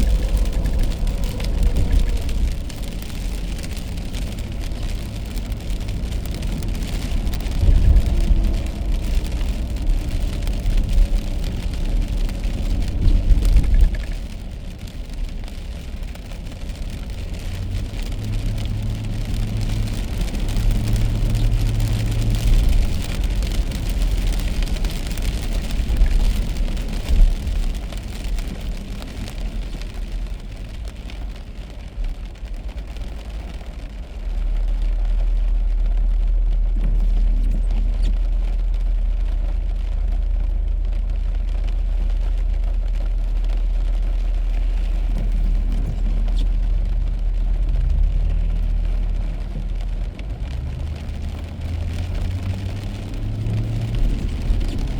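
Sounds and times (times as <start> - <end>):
low engine and road rumble: 0.0 - 54.9
rain and tyres hissing: 0.0 - 54.9.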